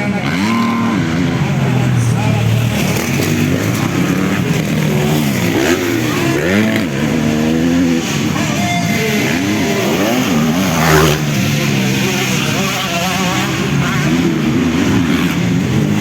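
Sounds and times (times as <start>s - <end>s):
motocross bike engines racing: 0.0s - 16.0s.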